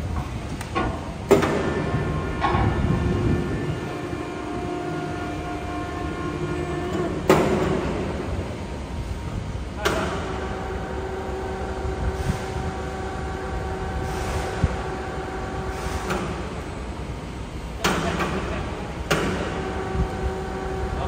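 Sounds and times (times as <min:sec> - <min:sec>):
electric hoist motor humming: 0:00.0 - 0:21.0.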